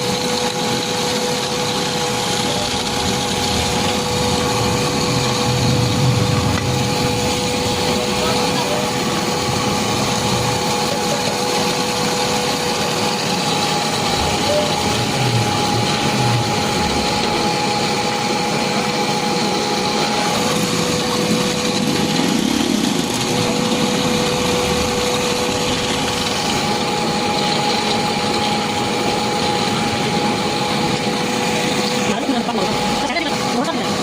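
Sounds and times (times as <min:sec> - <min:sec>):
machine running with a whine: 0:00.0 - 0:34.0.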